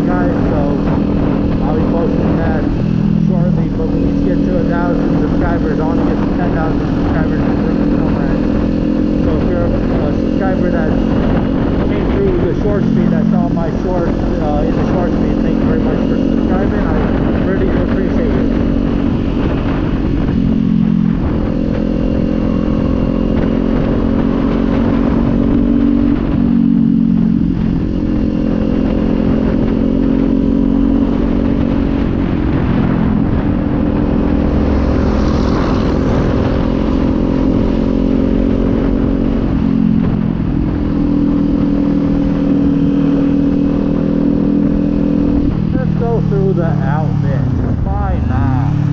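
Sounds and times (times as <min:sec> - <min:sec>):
motorcycle engine running: 0:00.0 - 0:48.9
wind noise: 0:00.0 - 0:48.9.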